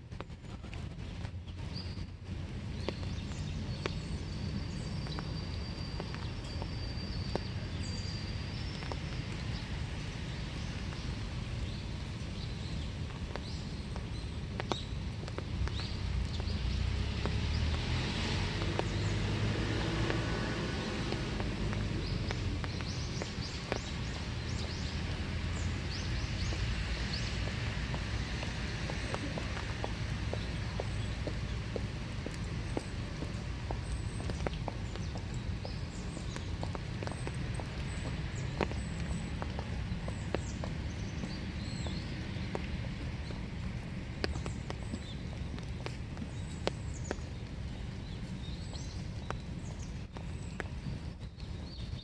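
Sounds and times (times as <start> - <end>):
sharp taps of raindrops: 0.0 - 52.0
steady rain in woods: 0.0 - 52.0.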